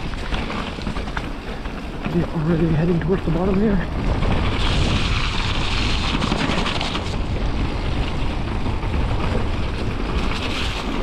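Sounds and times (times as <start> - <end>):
tyres rumbling over ground: 0.0 - 11.0
wind buffeting microphone: 0.0 - 11.0.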